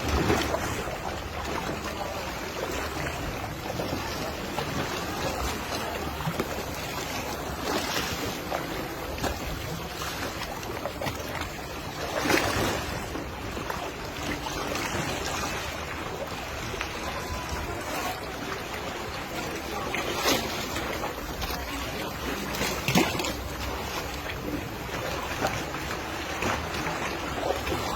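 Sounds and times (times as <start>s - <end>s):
sea waves washing on beach: 0.0s - 27.9s.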